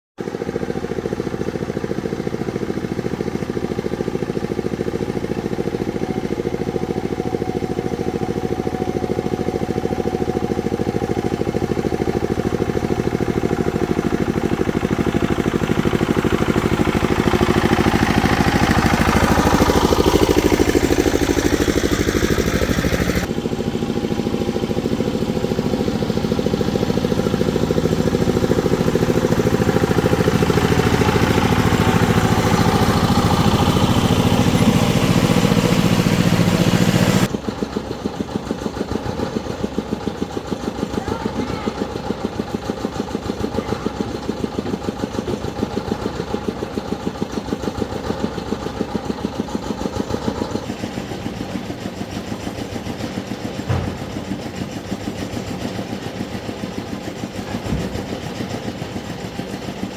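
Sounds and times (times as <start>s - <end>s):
engine running steadily: 0.2s - 59.9s.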